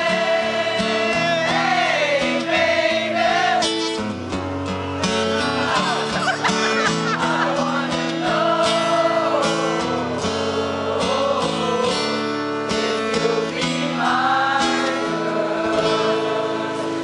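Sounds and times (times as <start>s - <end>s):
man singing: 0.0s - 2.7s, 5.2s - 17.0s
strummed acoustic guitar: 0.0s - 17.0s.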